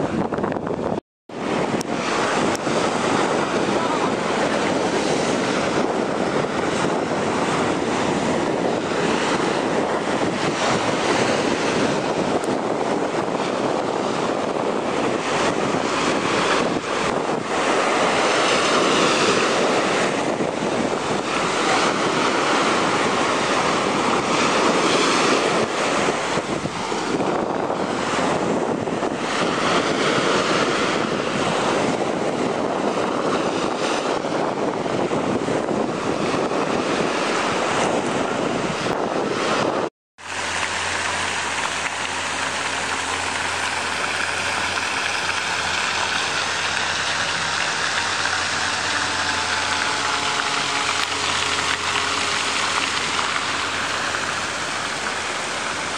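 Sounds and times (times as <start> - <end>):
sea surf breaking on beach: 0.0 - 55.9.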